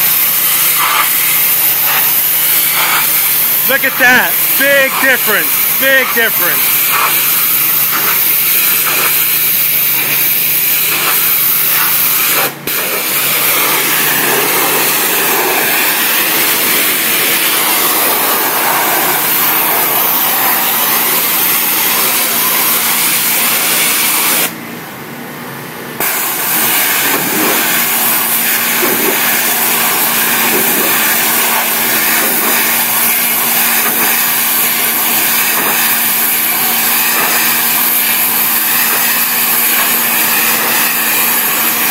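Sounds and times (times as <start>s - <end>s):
pressure washer spray hissing: 0.0s - 24.5s, 26.0s - 41.9s
pressure washer machine hum: 0.0s - 24.7s, 26.0s - 41.9s.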